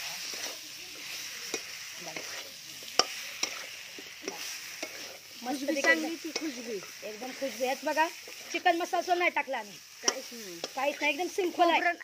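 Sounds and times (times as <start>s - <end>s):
chicken sizzling in pan: 0.0s - 12.0s
metal spatula scraping pan: 0.0s - 12.0s.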